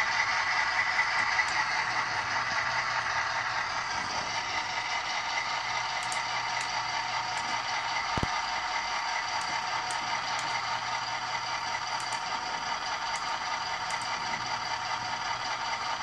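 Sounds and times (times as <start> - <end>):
thin diesel engine idle from speaker: 0.0 - 16.0.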